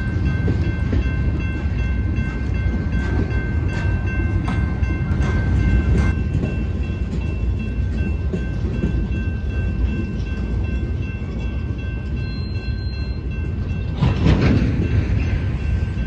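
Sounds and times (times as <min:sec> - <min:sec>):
high ringing tone: 0:00.0 - 0:14.0
freight train rumbling past: 0:00.0 - 0:16.0
wheels clacking over rail joints: 0:00.0 - 0:16.0.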